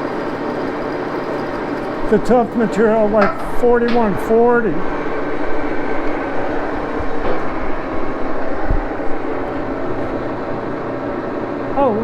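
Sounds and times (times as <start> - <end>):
lathe gears humming and whining: 0.0 - 12.0.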